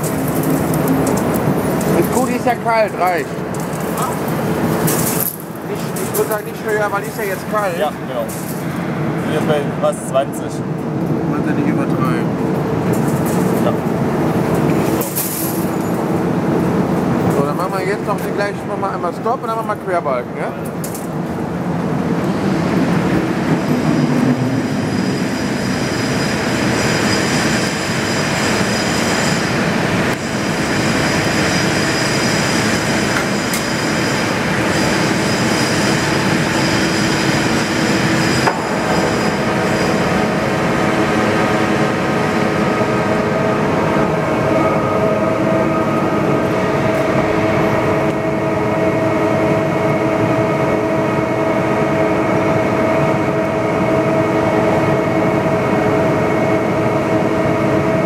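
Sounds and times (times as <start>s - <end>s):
lathe running with whining gears: 0.0s - 20.4s, 21.2s - 58.0s.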